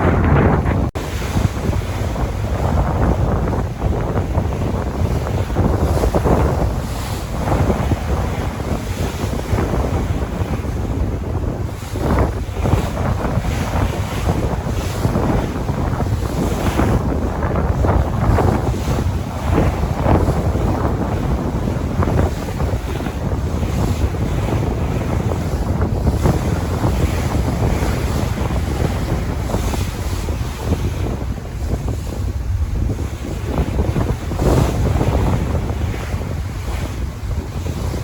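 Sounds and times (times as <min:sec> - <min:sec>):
sea waves splashing: 0:00.0 - 0:38.0
wind buffeting microphone: 0:00.0 - 0:38.0.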